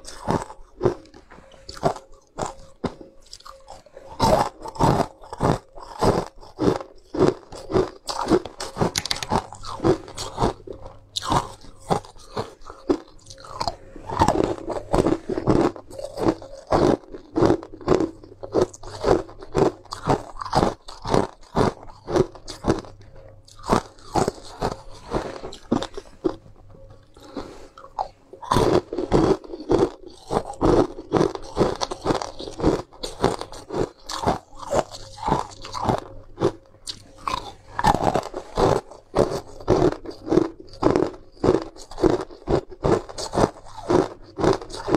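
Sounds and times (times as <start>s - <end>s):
crunching ice with teeth: 0.0s - 44.9s.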